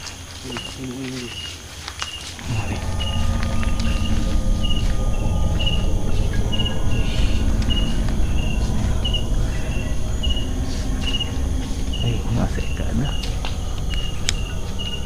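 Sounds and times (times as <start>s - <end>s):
insect chirping: 0.0s - 15.0s
steady low rumble: 2.4s - 15.0s.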